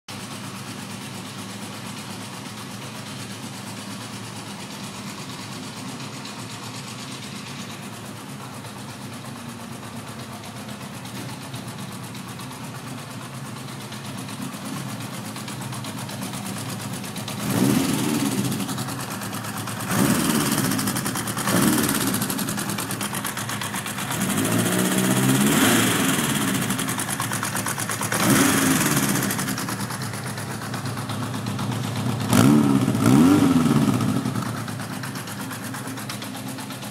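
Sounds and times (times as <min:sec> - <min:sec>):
motorcycle engine idling and revving: 0:00.1 - 0:36.9.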